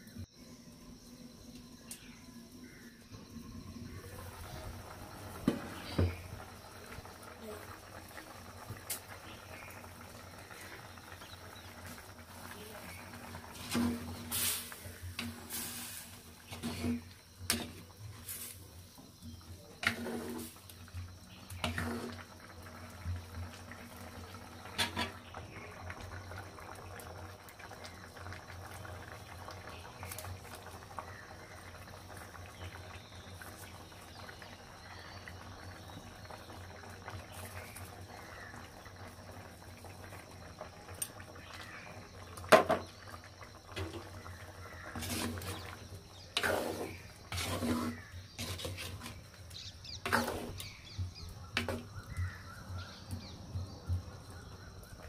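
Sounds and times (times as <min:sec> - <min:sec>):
curry bubbling in a pot: 0:00.1 - 0:55.0.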